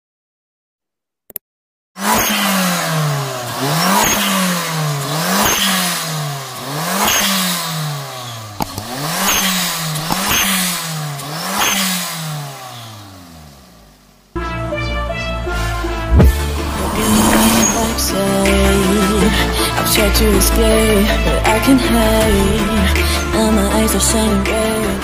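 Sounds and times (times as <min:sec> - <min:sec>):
car engine revving: 0:02.0 - 0:14.2, 0:15.9 - 0:25.0.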